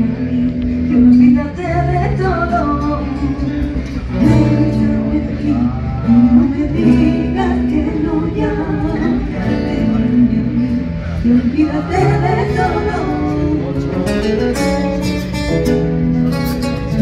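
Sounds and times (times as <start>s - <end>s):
women singing together: 0.0s - 14.0s
acoustic guitar: 0.0s - 17.0s.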